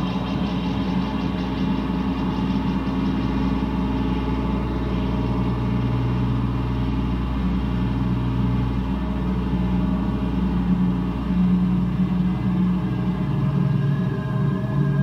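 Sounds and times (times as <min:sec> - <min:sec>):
ambient synthesizer drone music: 0:00.0 - 0:15.0
low sustained synth note: 0:00.0 - 0:15.0.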